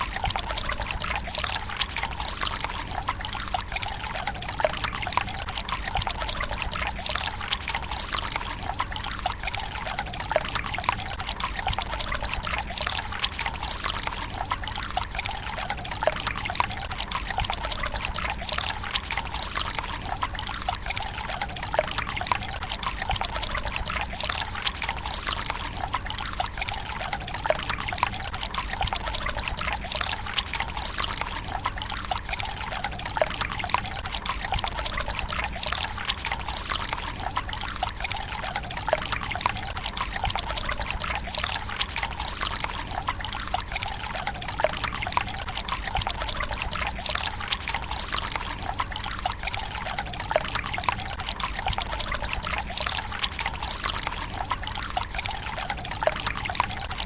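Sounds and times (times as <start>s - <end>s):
water trickling into stone basin: 0.0s - 57.0s.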